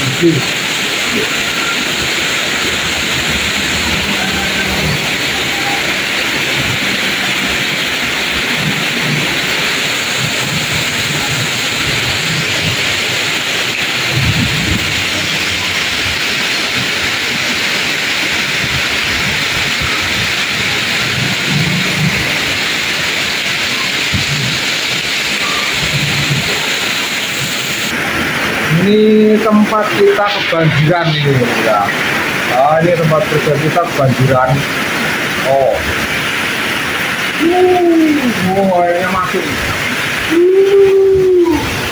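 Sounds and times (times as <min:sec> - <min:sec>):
low rumbles: 0:00.0 - 0:41.9
torrential rain pouring: 0:00.0 - 0:41.9.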